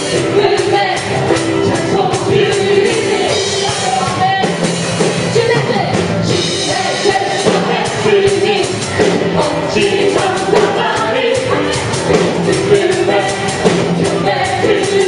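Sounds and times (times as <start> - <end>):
voices singing together: 0.0 - 4.6, 6.3 - 15.0
band with drums: 0.0 - 15.0.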